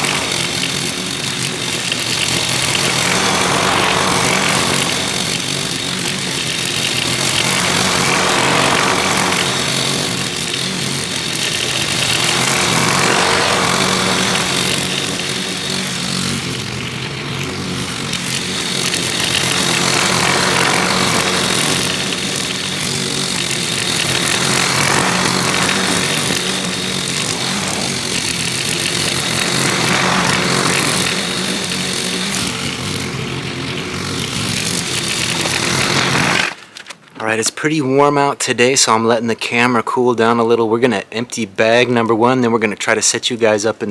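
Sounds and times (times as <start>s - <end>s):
lawn mower engine running: 0.0s - 40.3s.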